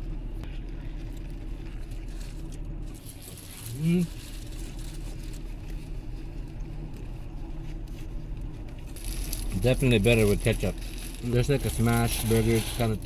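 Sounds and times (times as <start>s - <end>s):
low car cabin hum: 0.0s - 13.0s.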